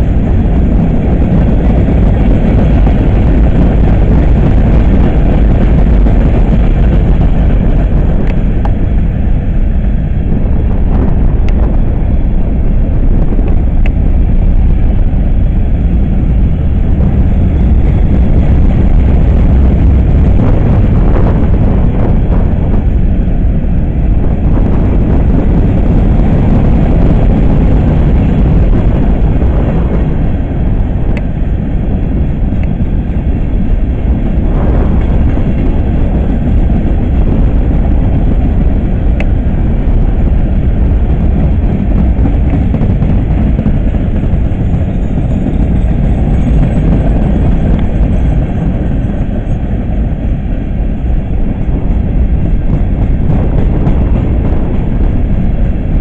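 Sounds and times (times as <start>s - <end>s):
freight cars rumbling on rails: 0.0s - 56.0s.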